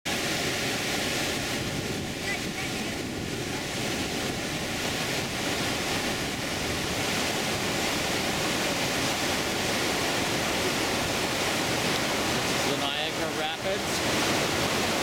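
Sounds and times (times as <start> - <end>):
river rapids rushing: 0.1 - 15.0.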